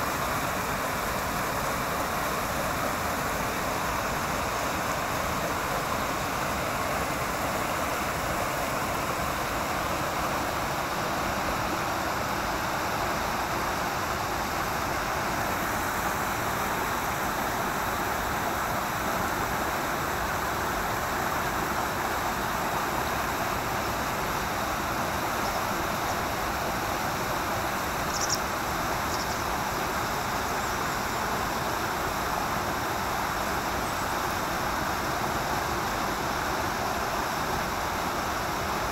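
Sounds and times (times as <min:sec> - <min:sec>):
stream rushing over weir: 0:00.0 - 0:38.9.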